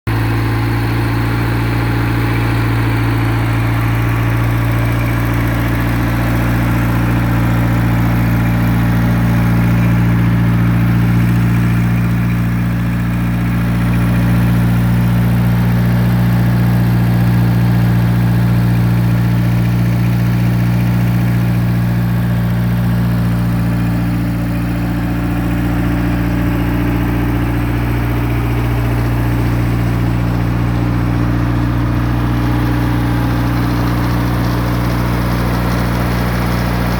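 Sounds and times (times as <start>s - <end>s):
concrete saw engine running: 0.1s - 36.9s.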